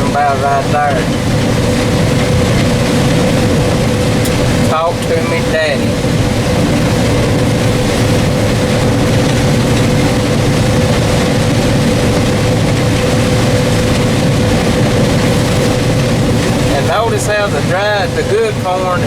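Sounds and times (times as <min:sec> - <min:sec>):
combine harvester drone from cab: 0:00.0 - 0:19.0
steady whine: 0:00.0 - 0:19.0.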